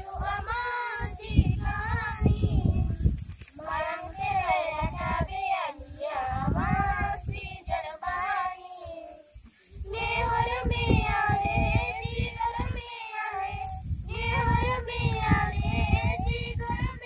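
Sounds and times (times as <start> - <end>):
children singing in chorus: 0.0 - 3.0, 3.6 - 9.3, 9.9 - 17.0.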